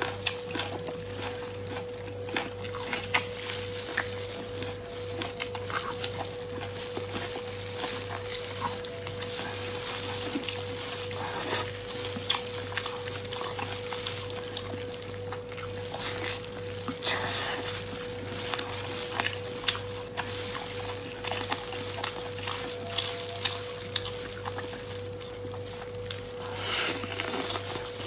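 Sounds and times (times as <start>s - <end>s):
faint steady hum: 0.0s - 28.0s
wet chewing and lip smacking: 0.0s - 28.0s.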